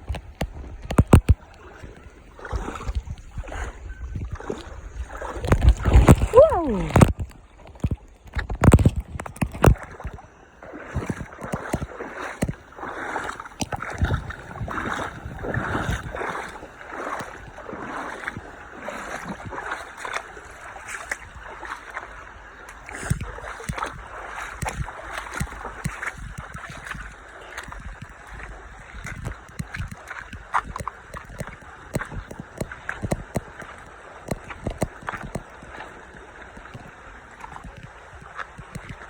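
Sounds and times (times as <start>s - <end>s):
stream water flowing: 0.0s - 39.0s
water splashing: 0.0s - 39.0s.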